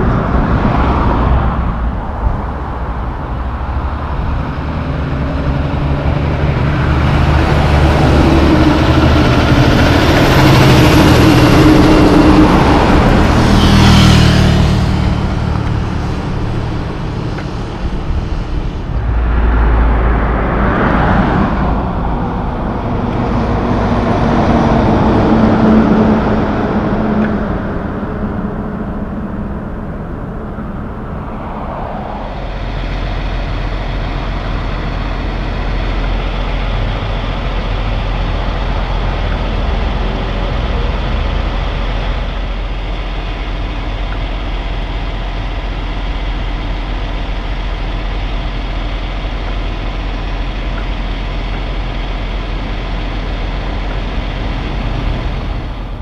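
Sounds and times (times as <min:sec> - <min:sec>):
vehicle passing on road: 0:00.0 - 0:56.0
diesel truck idling: 0:01.5 - 0:56.0.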